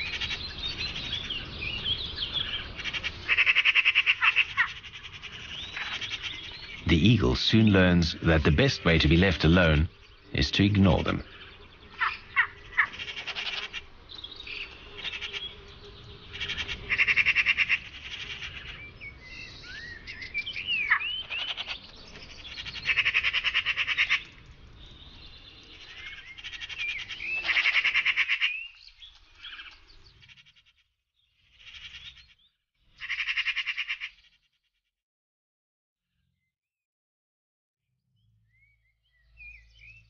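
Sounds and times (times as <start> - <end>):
magpies chattering: 0.0 - 24.4, 25.1 - 30.8, 31.5 - 32.4, 33.0 - 34.3.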